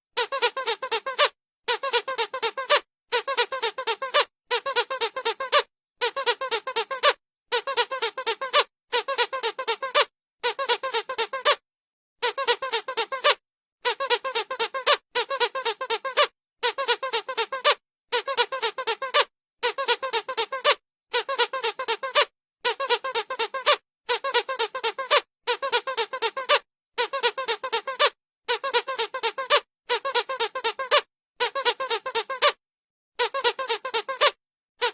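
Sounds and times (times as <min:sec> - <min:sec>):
squeaky dog toy squeaking: 0:00.2 - 0:11.6, 0:12.2 - 0:32.6, 0:33.2 - 0:34.9.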